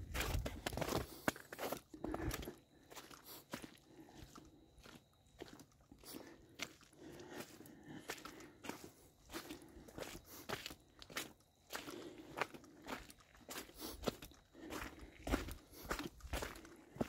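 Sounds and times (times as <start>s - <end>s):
footsteps crunching on dirt: 0.0s - 17.0s.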